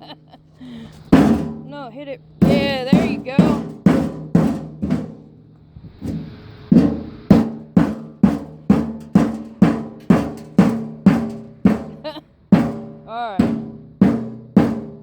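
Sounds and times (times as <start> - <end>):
sledgehammer striking metal: 1.1 - 1.7, 2.4 - 15.0.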